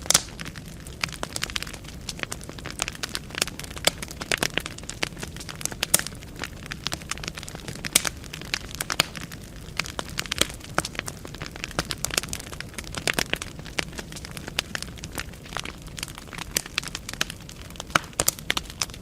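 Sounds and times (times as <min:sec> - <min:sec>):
flames rumbling softly: 0:00.0 - 0:19.0
logs crackling and popping: 0:00.0 - 0:19.0.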